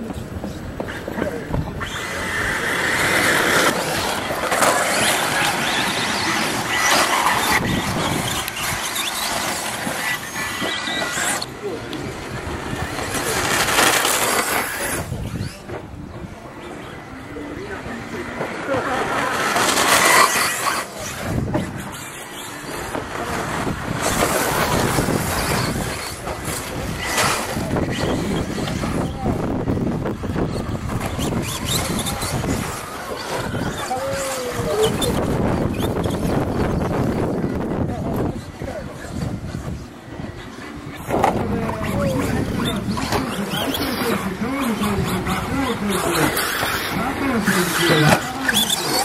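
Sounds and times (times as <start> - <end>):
rc truck motors whining: 0.4 - 49.0.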